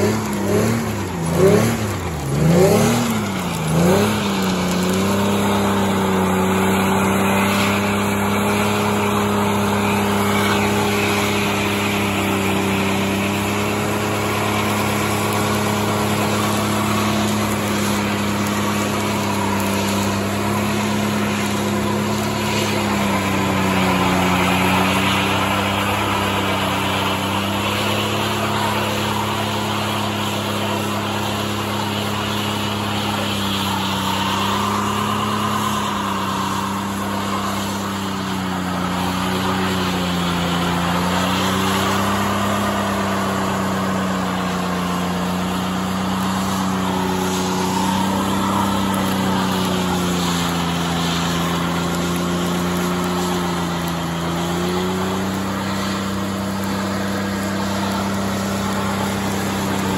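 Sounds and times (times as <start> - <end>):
engine revving high: 0.0 - 59.9
tyres spinning: 0.0 - 59.9.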